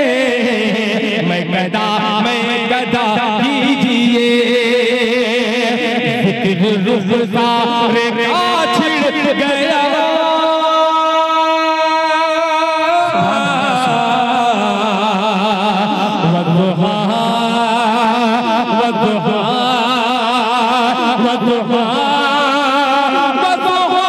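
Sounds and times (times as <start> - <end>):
man singing chant-like melody: 0.0 - 24.0.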